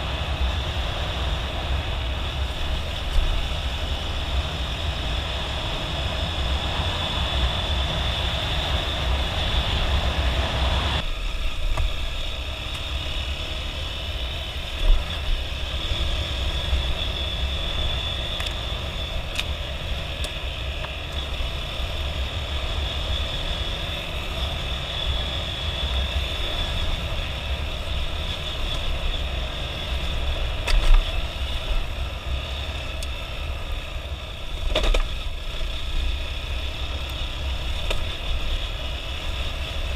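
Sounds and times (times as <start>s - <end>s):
motorcycle riding: 0.0s - 39.9s
wind rumble on microphone: 0.0s - 39.9s.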